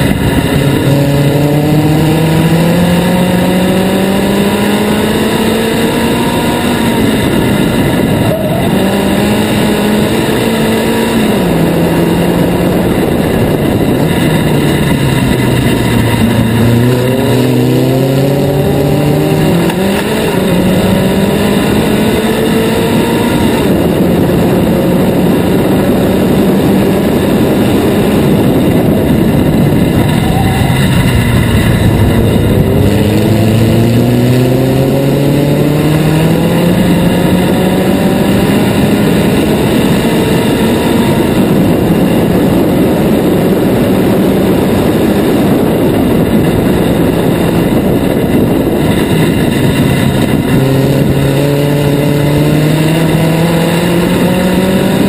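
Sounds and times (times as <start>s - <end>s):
racing car engine at high revs: 0.0s - 55.0s.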